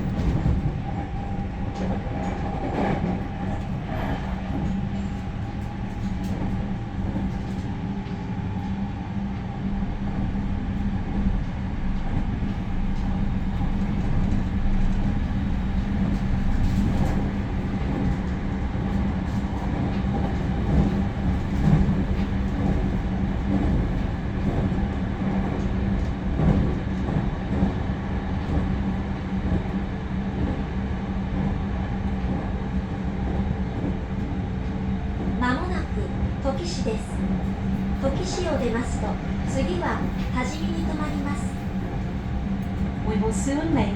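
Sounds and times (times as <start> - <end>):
wheels rumbling on rail: 0.0 - 43.9.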